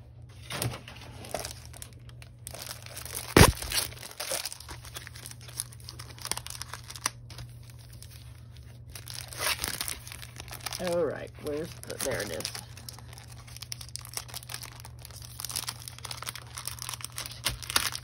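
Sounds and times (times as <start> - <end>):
plastic sleeve crinkling: 0.4 - 18.0.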